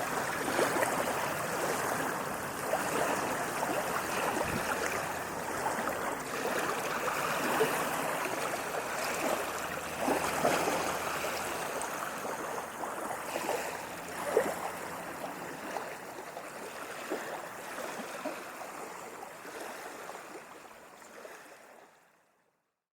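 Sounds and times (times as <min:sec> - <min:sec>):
waves washing on beach: 0:00.0 - 0:22.0.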